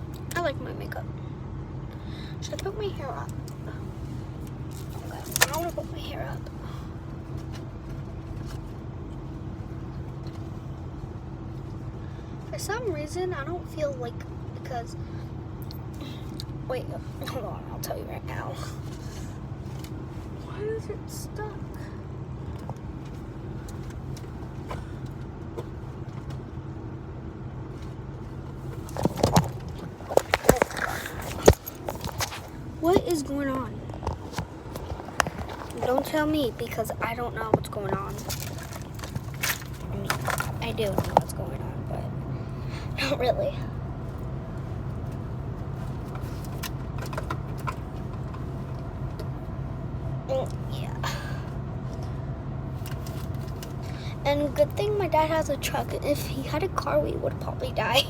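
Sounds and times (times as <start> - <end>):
car cabin hum: 1.9 - 15.2, 15.8 - 58.0.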